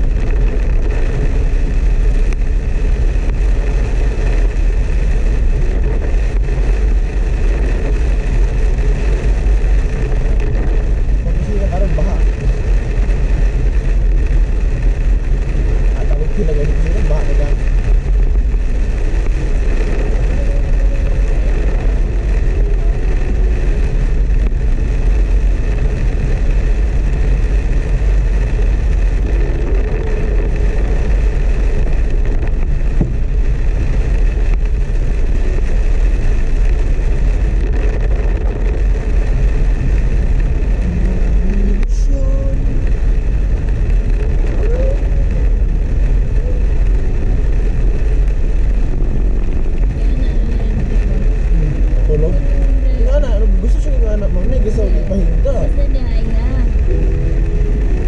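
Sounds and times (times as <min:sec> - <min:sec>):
car and tyres on wet road: 0:00.0 - 0:58.0
heavy rain rushing: 0:00.0 - 0:58.0.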